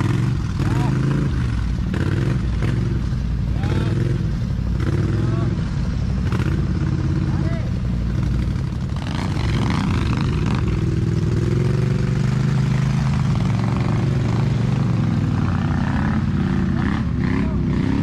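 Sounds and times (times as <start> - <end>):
atv engine running hard: 0.0 - 18.0.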